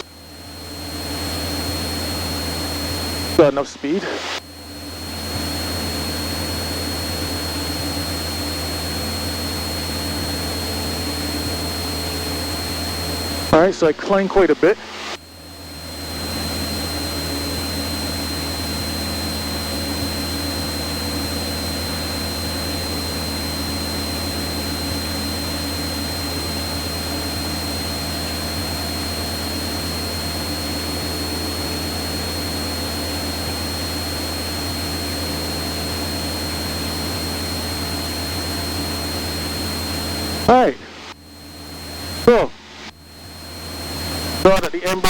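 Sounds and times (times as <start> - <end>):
high-pitched whine: 0.0 - 45.0
light aircraft engine drone: 0.0 - 45.0.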